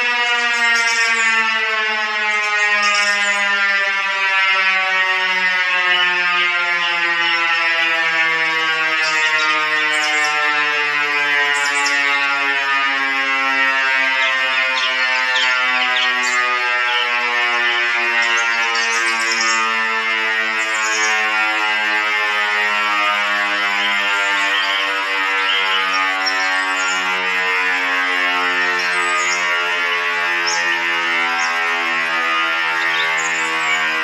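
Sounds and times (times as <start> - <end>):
electronic emergency alarm tones: 0.0 - 34.0.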